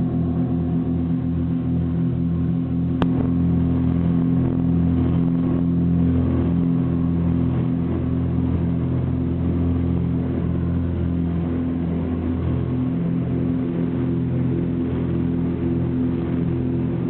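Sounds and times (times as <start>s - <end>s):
plane engine drone in cabin: 0.0s - 17.0s.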